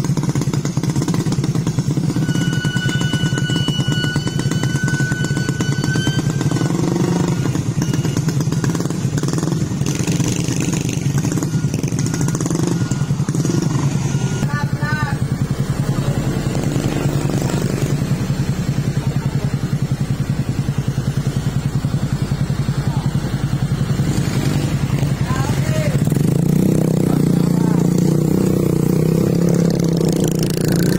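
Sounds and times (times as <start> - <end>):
diesel truck engine at low revs: 0.0 - 30.9.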